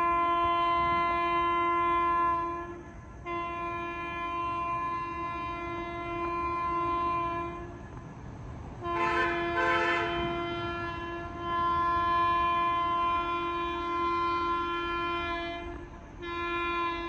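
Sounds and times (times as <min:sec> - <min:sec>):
locomotive horn blasts: 0:00.0 - 0:08.0, 0:08.8 - 0:17.0.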